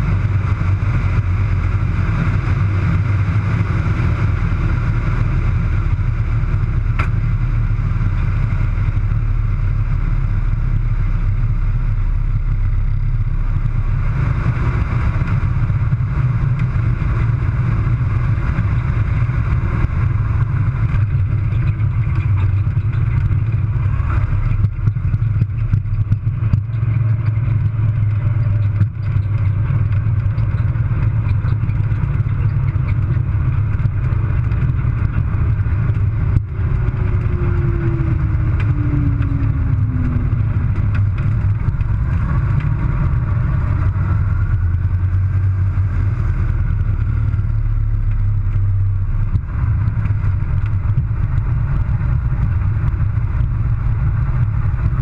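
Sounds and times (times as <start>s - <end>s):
radial aircraft engine droning: 0.0s - 55.0s.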